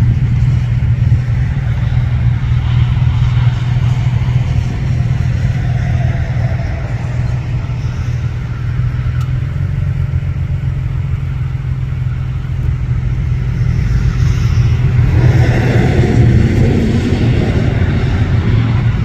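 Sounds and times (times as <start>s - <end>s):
locomotive engine drone: 0.0s - 19.0s
train rumble: 0.0s - 19.0s.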